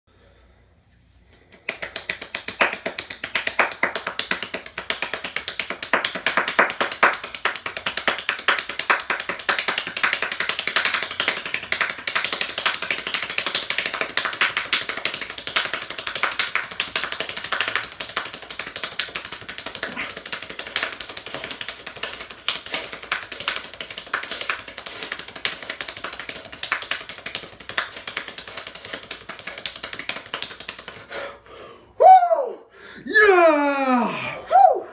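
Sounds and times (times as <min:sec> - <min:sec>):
person clapping fast: 0:01.3 - 0:31.2.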